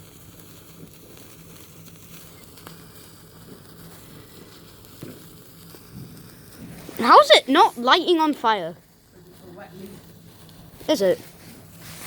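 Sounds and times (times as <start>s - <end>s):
bonfire crackling: 0.0s - 12.0s
low steady hiss: 0.0s - 12.0s.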